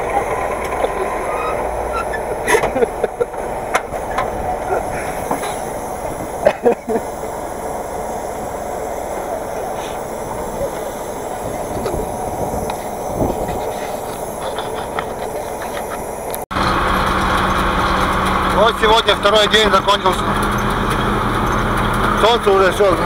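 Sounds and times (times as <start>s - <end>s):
tractor engine drone: 0.0s - 23.0s.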